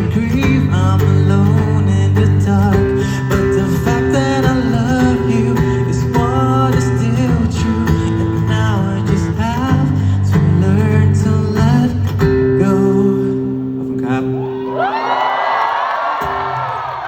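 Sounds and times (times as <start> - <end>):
bass: 0.0 - 14.4.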